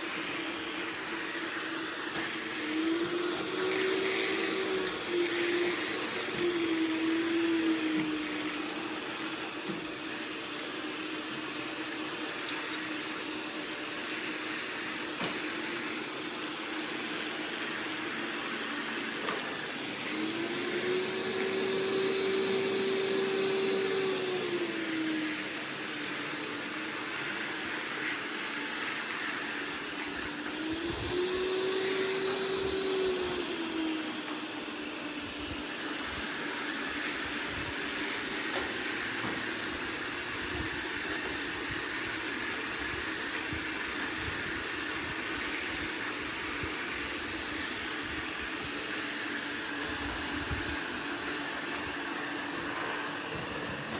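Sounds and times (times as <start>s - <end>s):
robot vacuum motor hum: 0.0s - 53.9s.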